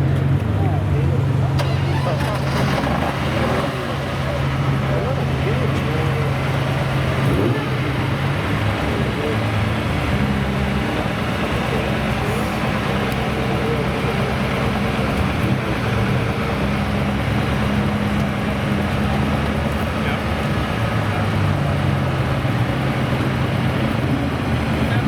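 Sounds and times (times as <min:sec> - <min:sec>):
car engines running at low revs: 0:00.0 - 0:25.0.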